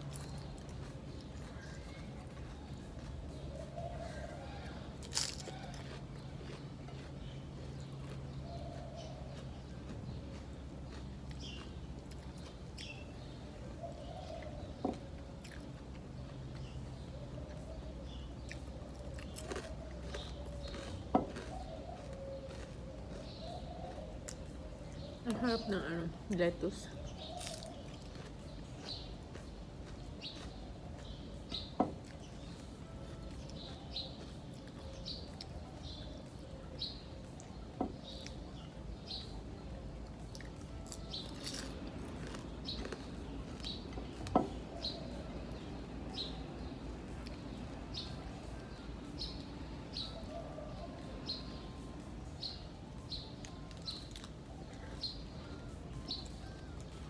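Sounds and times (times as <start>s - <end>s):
low background hum: 0.0s - 57.0s
small bird chirping: 0.0s - 57.0s.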